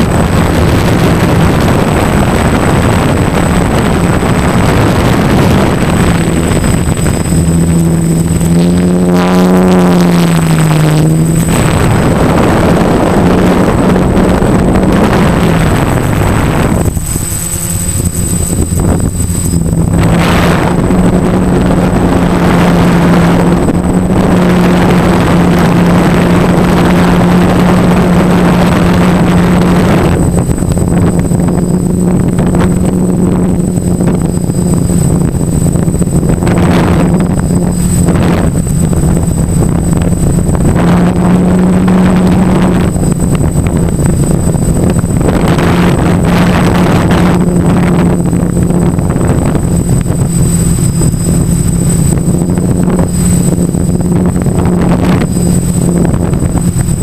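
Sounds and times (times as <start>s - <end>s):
drone motors humming: 0.0s - 57.0s
wind noise on microphone: 0.0s - 57.0s.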